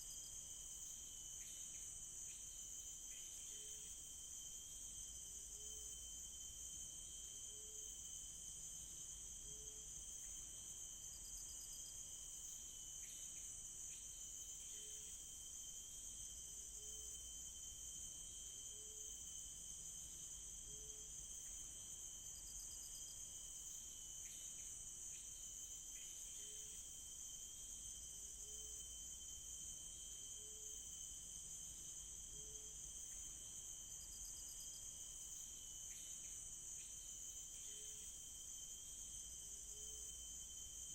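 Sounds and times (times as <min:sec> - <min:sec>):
insect trills: 0:00.0 - 0:40.9
thin insect whine: 0:00.0 - 0:40.9.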